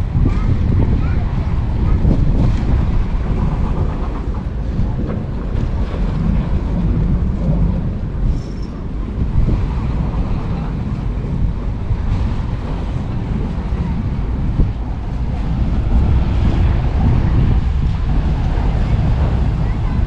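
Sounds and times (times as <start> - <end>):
waves washing on beach: 0.0 - 20.0
wind buffeting microphone: 0.0 - 20.0.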